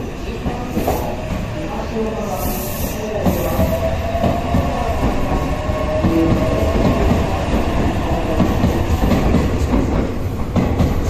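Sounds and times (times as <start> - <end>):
electric train rolling past: 0.0 - 11.0.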